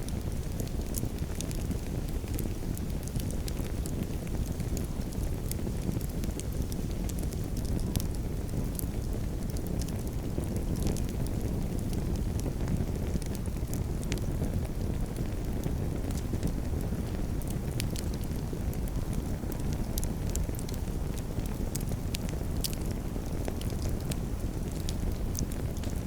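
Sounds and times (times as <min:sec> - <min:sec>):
low rumble of flames: 0:00.0 - 0:26.0
wood crackling and popping: 0:00.0 - 0:26.0.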